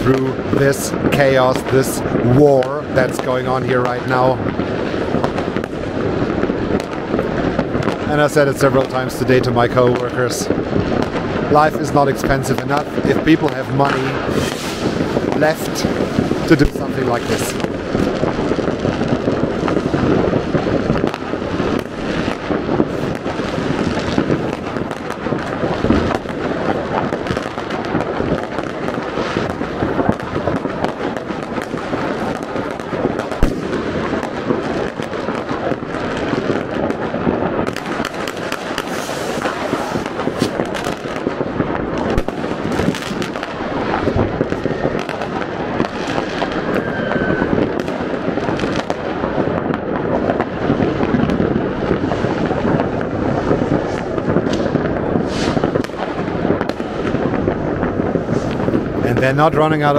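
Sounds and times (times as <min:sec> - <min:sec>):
fireworks and firecrackers barrage: 0:00.0 - 0:59.9.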